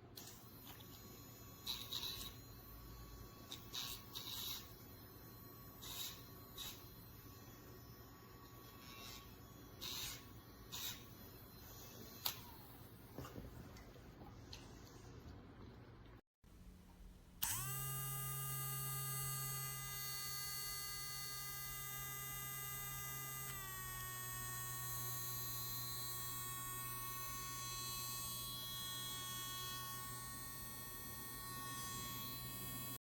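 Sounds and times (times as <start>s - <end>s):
nail grinder motor whining: 0.2s - 12.7s, 17.4s - 33.0s.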